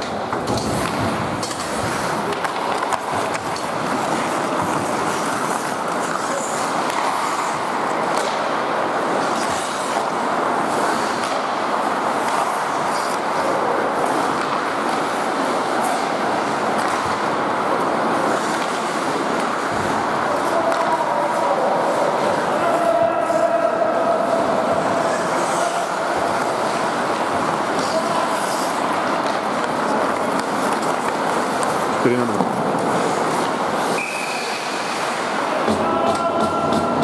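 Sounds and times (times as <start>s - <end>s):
hockey sticks and puck clicking: 0.0s - 23.4s, 24.3s - 37.0s
skates on ice: 0.0s - 37.0s.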